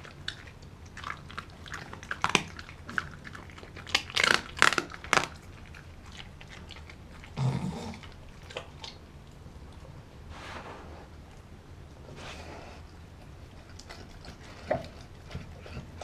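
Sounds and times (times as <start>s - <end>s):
dog biting and chewing meat: 0.0s - 10.2s, 10.8s - 16.0s.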